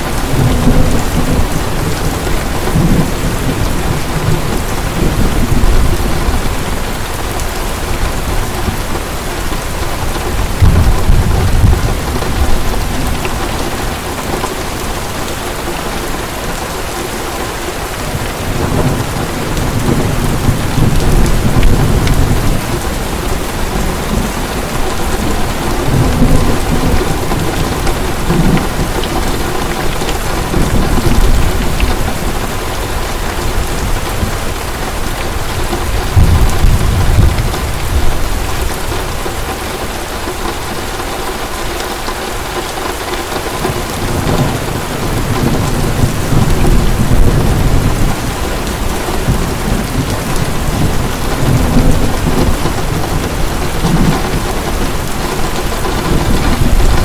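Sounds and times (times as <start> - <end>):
thunder rumbling: 0.0 - 16.8, 17.5 - 40.4, 43.4 - 57.0
heavy rain falling: 0.0 - 57.0.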